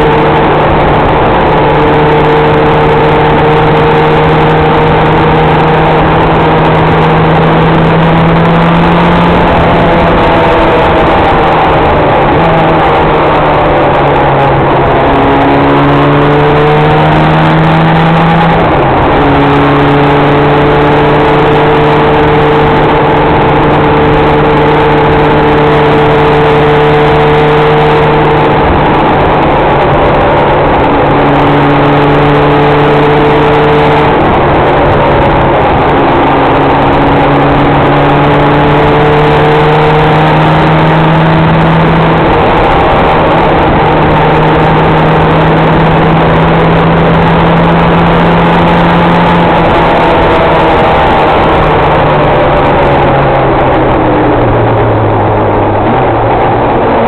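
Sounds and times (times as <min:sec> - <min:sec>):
road noise: 0:00.0 - 0:57.0
vehicle engine running: 0:00.0 - 0:57.0
wind on microphone: 0:00.0 - 0:57.0.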